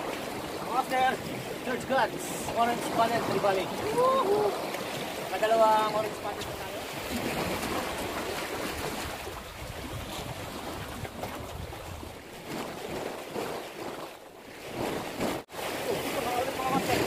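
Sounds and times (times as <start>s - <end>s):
wind buffeting microphone: 0.0s - 14.0s
waves washing against rocks: 0.0s - 17.0s.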